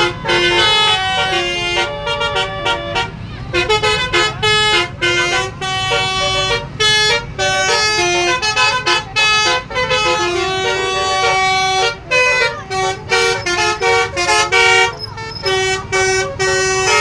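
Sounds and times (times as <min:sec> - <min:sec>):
multi-trumpet musical horn tune: 0:00.0 - 0:17.0.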